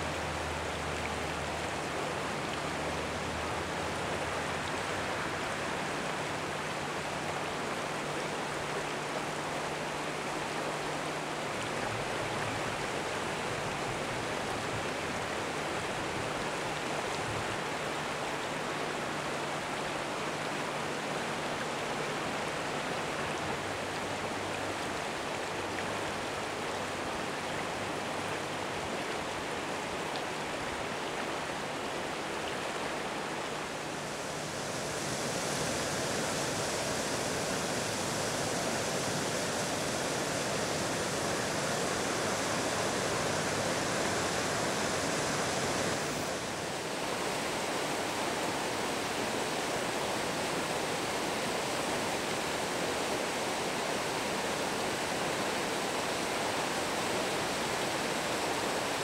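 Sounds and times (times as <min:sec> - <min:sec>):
river water rushing over stones: 0:00.0 - 0:59.0.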